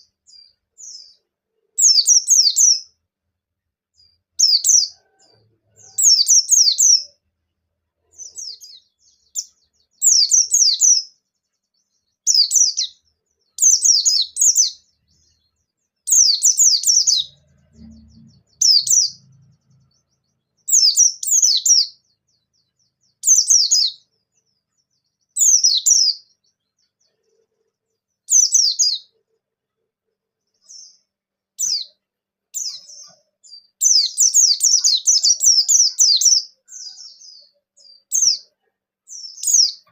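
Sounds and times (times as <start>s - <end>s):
bird twittering song: 0.0s - 3.0s, 3.9s - 29.4s, 30.3s - 39.9s.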